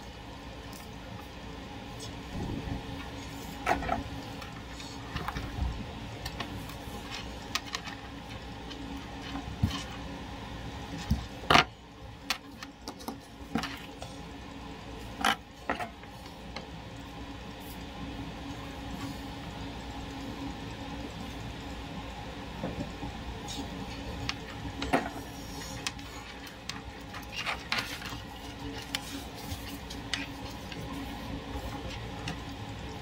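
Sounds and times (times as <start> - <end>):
faint steady hum: 0.0 - 33.0
wires and relay rustling and clicking: 0.0 - 33.0.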